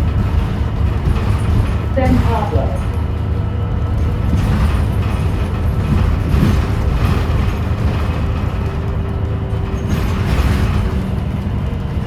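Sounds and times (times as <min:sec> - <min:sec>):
bus drivetrain and road rumble: 0:00.0 - 0:12.0.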